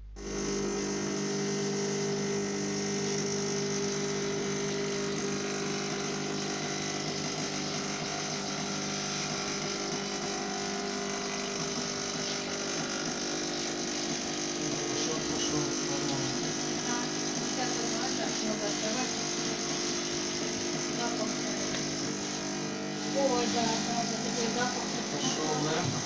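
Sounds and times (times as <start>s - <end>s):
washing vacuum cleaner running: 0.0s - 26.0s.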